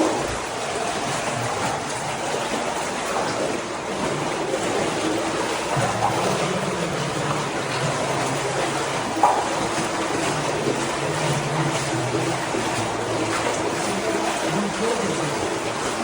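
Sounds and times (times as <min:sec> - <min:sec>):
water rushing through tunnel: 0:00.0 - 0:16.0
water splashes: 0:00.0 - 0:16.0.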